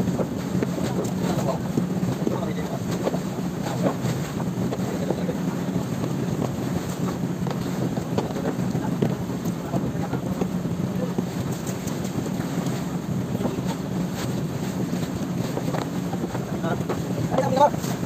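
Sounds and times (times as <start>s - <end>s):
boat engine humming: 0.0s - 18.0s
water splashing along hull: 0.0s - 18.0s.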